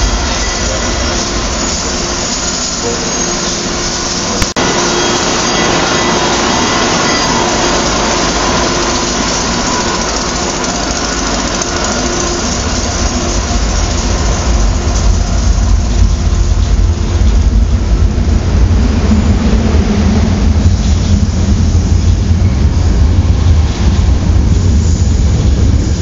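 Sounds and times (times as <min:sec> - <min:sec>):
electric railcar hum: 0:00.0 - 0:26.0
train wheels rumbling on rails: 0:00.0 - 0:26.0.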